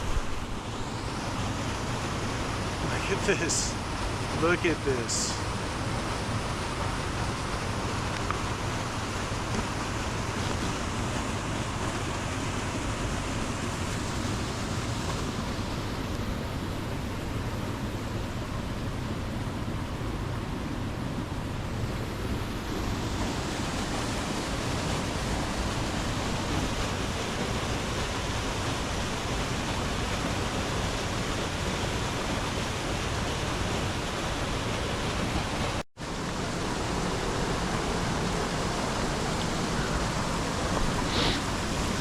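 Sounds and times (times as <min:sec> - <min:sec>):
waterfall rushing: 0:00.0 - 0:19.7, 0:21.6 - 0:42.0.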